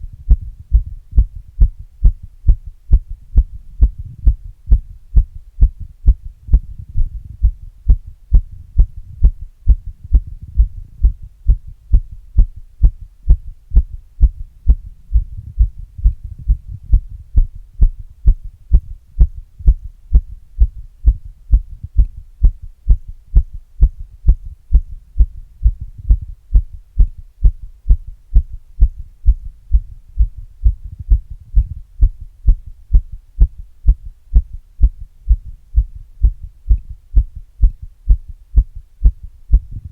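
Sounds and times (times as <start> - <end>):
faint hum: 0.0 - 39.9
heartbeat thumps: 0.0 - 39.9.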